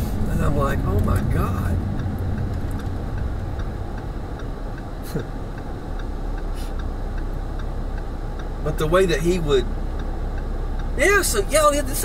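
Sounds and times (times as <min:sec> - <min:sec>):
cabin road rumble: 0:00.0 - 0:12.0
car engine running gently: 0:00.0 - 0:12.0
turn signal ticking: 0:00.2 - 0:12.0.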